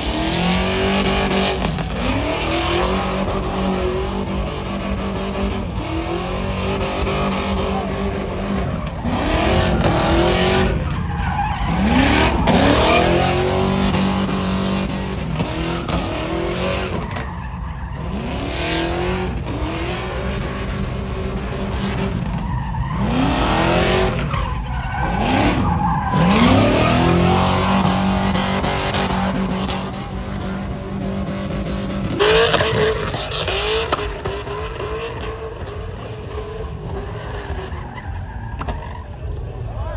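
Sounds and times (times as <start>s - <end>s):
truck engine revving: 0.0s - 39.7s
tires screeching: 0.0s - 39.9s.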